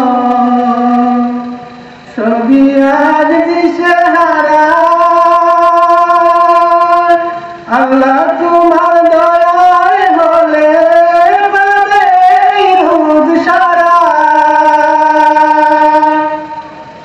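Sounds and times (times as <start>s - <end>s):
man singing into a microphone: 0.0s - 16.7s.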